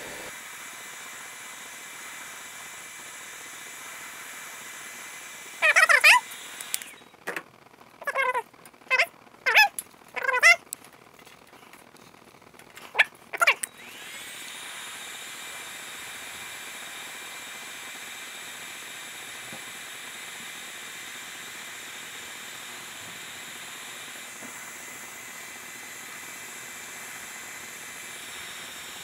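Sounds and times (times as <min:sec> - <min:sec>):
hot-air gun hissing: 0:00.0 - 0:07.2, 0:12.9 - 0:29.0.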